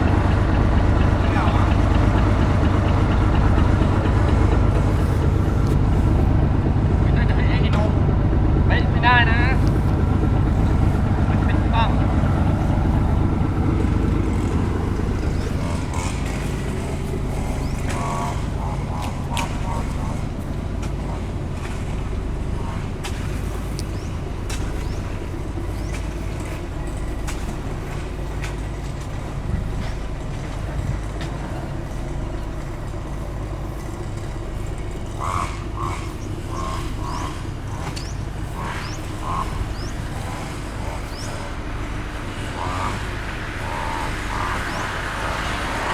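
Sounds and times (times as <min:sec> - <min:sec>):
bus engine rumbling: 0:00.0 - 0:45.9
faint voices: 0:00.8 - 0:45.9.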